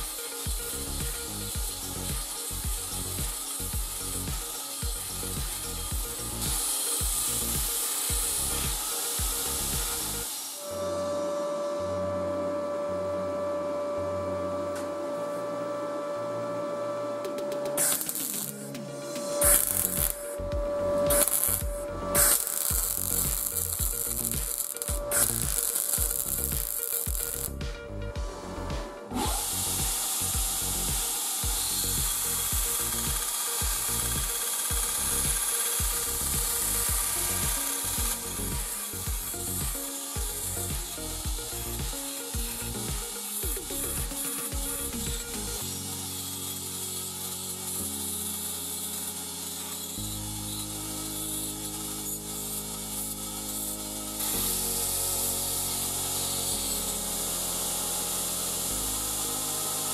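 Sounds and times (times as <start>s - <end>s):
belt grinder grinding steel: 0.0s - 12.2s, 17.4s - 59.9s
background music with steady beat: 0.0s - 59.9s.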